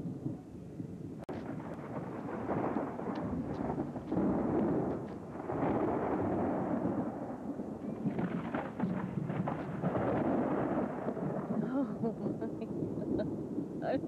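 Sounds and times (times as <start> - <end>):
thunder rumbling: 0.0 - 14.0
thunder cracks: 1.3 - 14.0.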